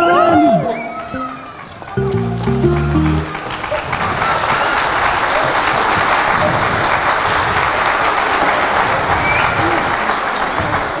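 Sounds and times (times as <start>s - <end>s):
audience clapping and cheering: 0.9s - 11.0s.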